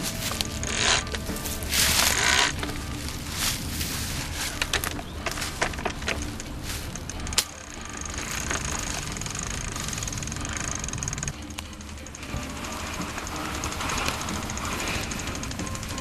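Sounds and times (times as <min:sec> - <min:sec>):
wood cracking and splintering: 0:00.0 - 0:16.0.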